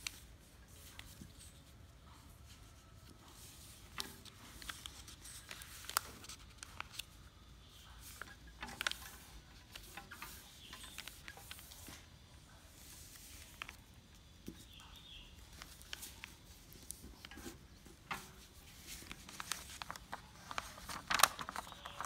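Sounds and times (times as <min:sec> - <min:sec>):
paper folding and crinkling: 0:00.0 - 0:22.0.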